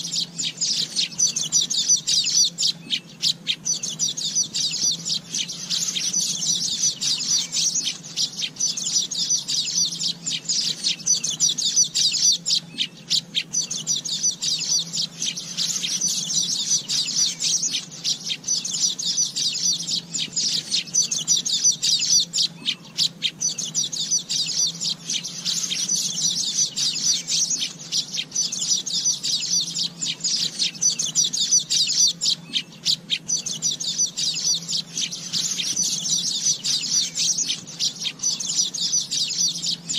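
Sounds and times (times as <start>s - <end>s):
birds chattering and chirping: 0.0s - 39.9s.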